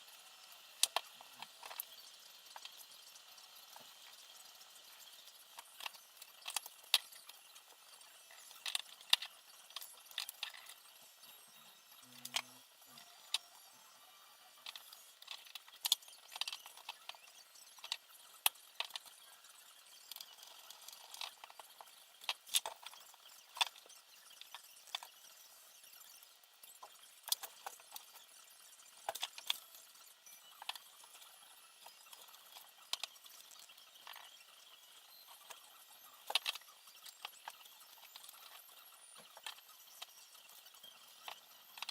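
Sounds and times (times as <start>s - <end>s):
small hard parts clicking: 0.3s - 41.9s.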